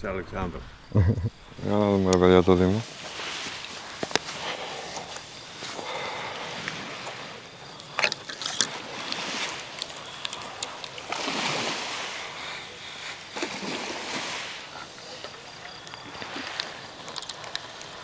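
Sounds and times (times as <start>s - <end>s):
small waves washing on shore: 1.4s - 18.0s.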